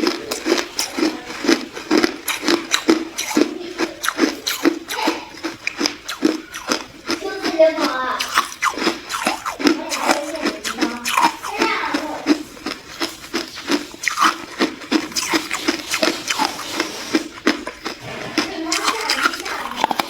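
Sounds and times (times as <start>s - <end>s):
ice being chewed: 0.0s - 20.0s.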